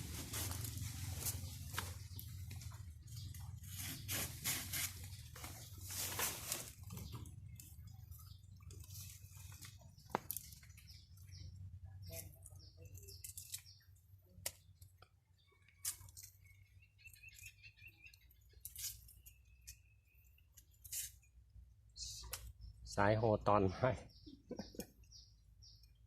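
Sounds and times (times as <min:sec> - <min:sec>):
small bird chirping: 0:00.6 - 0:26.0.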